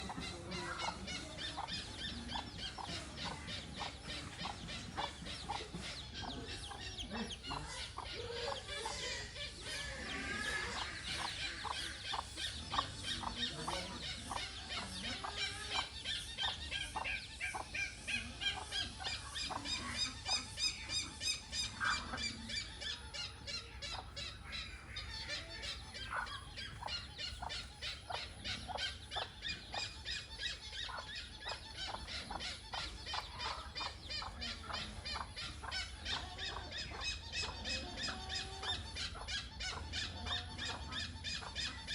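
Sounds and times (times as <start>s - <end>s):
hornbills squealing and honking: 0.0s - 41.9s.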